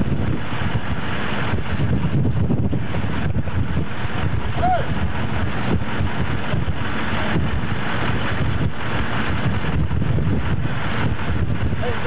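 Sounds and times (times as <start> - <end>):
vehicle engines running: 0.0 - 12.0
wind buffeting microphone: 0.0 - 12.0.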